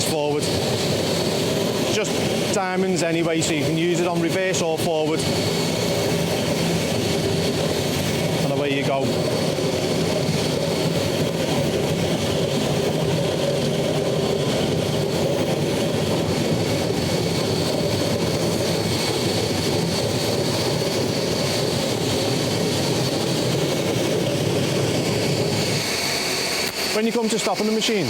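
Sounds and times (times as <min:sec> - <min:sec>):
dust extractor vacuum running: 0:00.0 - 0:18.8, 0:24.1 - 0:28.0.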